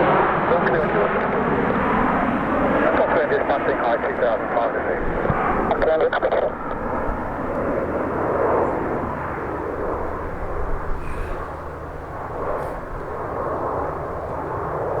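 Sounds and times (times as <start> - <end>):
jet flying over: 0.0 - 15.0.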